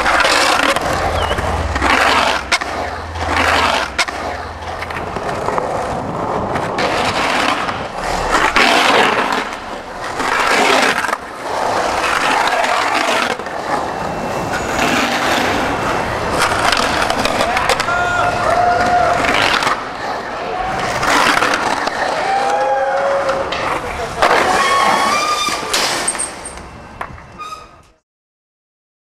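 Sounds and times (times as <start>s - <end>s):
skateboard clacks: 0.0s - 26.2s
skateboard trucks grinding on concrete: 0.0s - 27.9s
skateboard wheels rolling on concrete: 0.0s - 28.0s.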